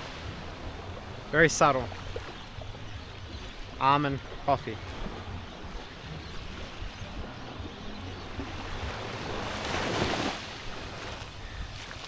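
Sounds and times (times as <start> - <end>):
small waves washing: 0.0 - 12.0.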